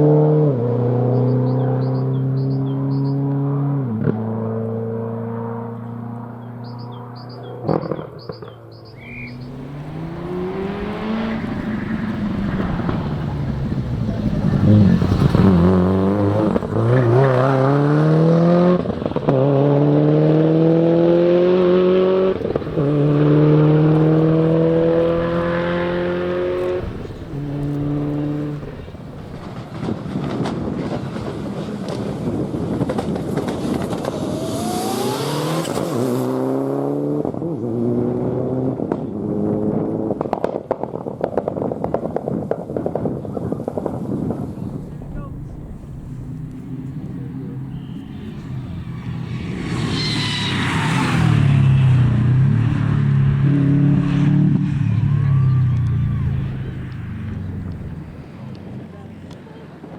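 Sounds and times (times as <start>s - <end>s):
second car engine revving: 0.0s - 40.4s, 43.6s - 59.1s
rally car accelerating through gears: 0.0s - 40.8s, 43.6s - 58.7s.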